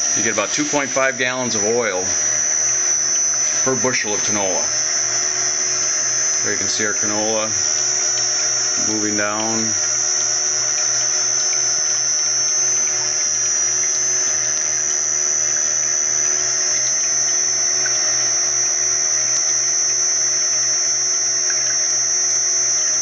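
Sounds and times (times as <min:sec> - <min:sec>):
low rhythmic throb: 0:00.0 - 0:23.0
oil press humming and whining: 0:00.0 - 0:23.0.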